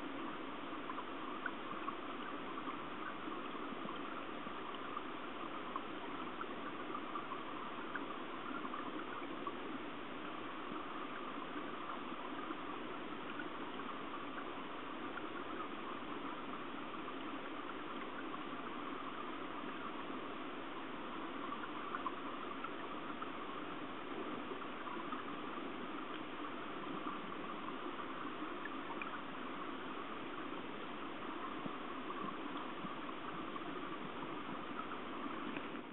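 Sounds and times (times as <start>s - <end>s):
muffled underwater stream rushing: 0.0s - 35.9s
faint ticks: 0.2s - 35.9s.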